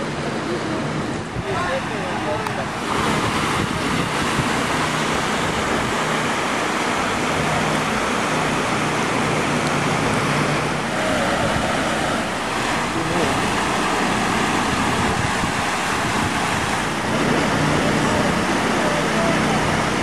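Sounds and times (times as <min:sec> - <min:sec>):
floodwater rushing across street: 0:00.0 - 0:20.0.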